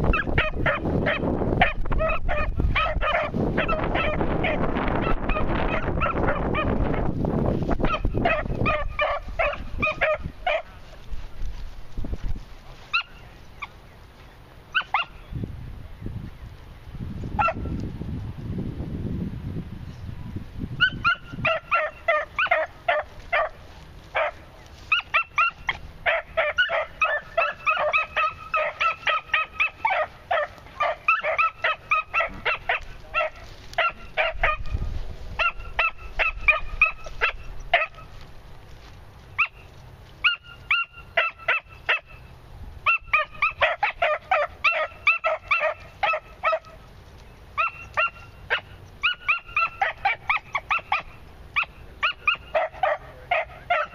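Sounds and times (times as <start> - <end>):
puppies yipping: 0.0 - 7.1, 7.8 - 10.8, 12.9 - 13.8, 14.7 - 15.2, 17.4 - 17.7, 20.8 - 38.2, 39.3 - 53.9.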